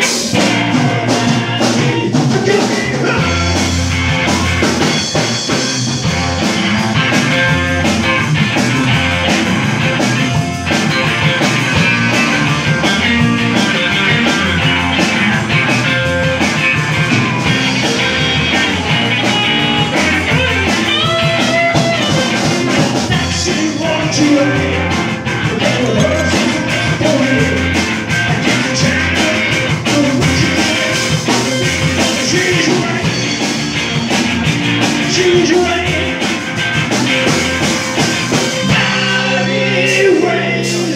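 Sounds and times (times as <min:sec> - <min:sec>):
drum kit: 0:00.0 - 0:40.9
electric bass: 0:00.0 - 0:40.9
electric guitars: 0:00.0 - 0:40.9.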